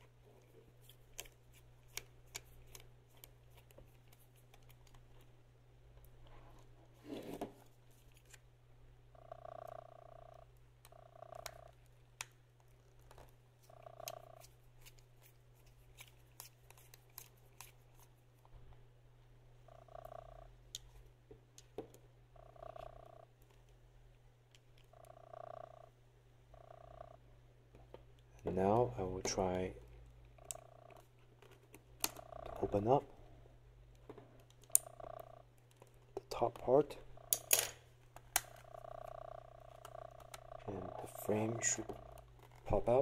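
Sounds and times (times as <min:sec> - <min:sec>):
steady low electrical hum: 0:00.0 - 0:43.0.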